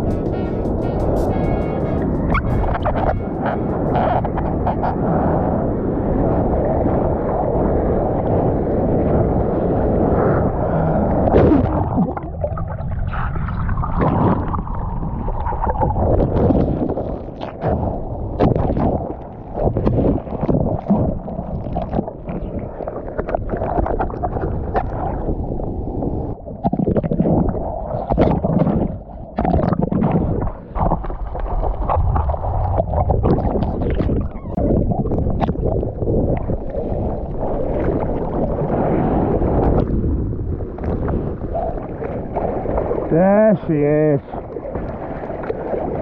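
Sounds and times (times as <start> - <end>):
sea water sloshing and splashing: 2.2 - 46.0.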